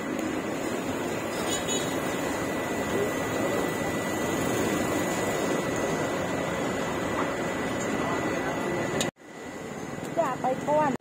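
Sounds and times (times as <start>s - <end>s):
continuous rushing street noise: 0.0s - 11.0s.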